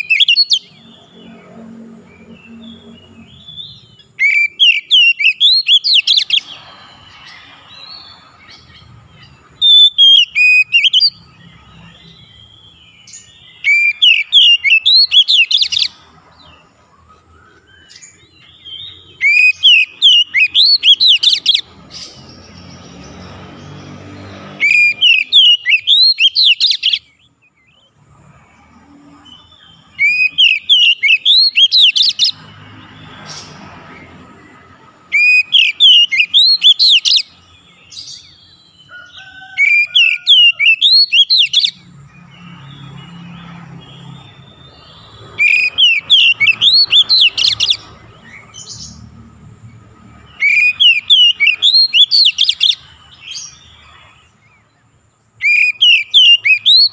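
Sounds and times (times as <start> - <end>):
bird singing whistled notes: 0.0 - 27.9, 28.6 - 34.1, 35.1 - 49.1, 50.2 - 54.7, 55.4 - 56.9.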